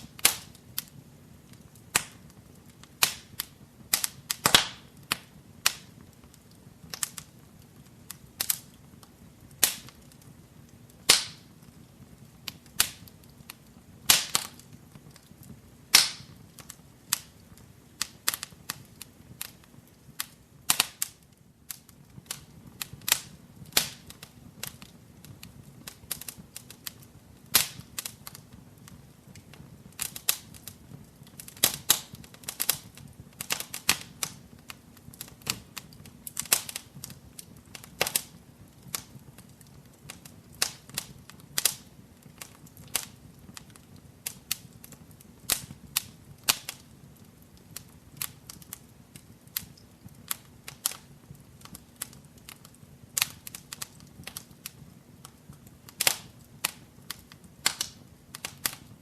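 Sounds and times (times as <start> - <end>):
low flame rumble: 0.0 - 59.0
wood fire crackling and popping: 0.0 - 59.0.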